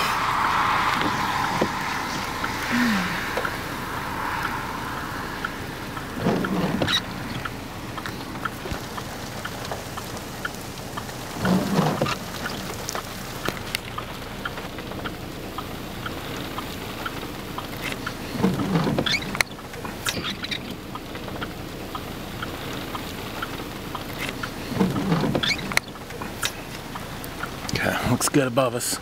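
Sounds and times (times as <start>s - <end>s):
steady hiss: 0.0s - 29.0s
raindrops ticking: 0.2s - 29.0s.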